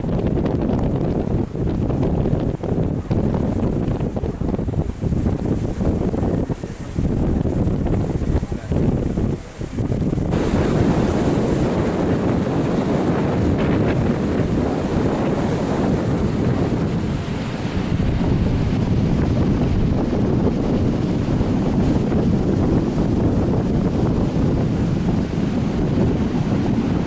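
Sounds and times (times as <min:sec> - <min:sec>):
boat moving through water: 0:00.0 - 0:27.0
wind buffeting microphone: 0:00.0 - 0:27.0.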